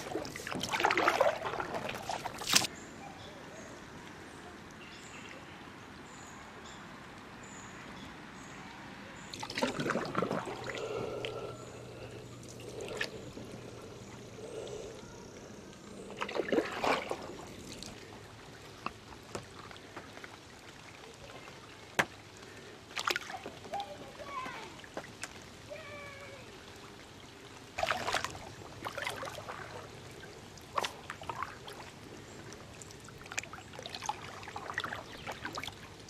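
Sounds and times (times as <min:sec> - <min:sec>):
water pouring off paddle blades: 0:00.0 - 0:02.7, 0:09.3 - 0:36.0.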